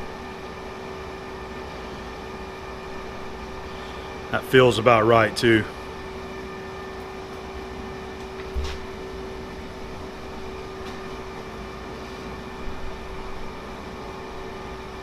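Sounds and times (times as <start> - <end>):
shop machinery hum: 0.0 - 15.0.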